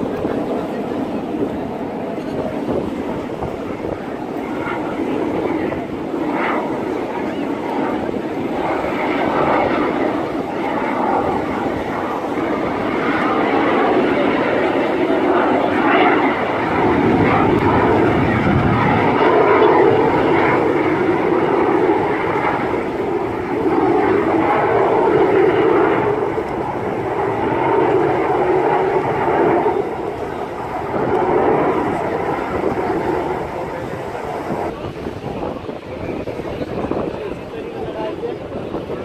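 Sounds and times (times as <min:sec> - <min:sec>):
jet aircraft flying overhead: 0:00.0 - 0:39.0.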